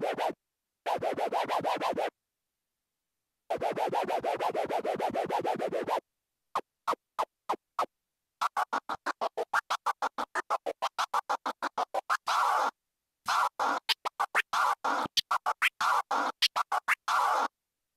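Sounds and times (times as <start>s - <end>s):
vinyl record scratching: 0.0s - 2.1s, 3.5s - 6.0s, 6.6s - 17.5s.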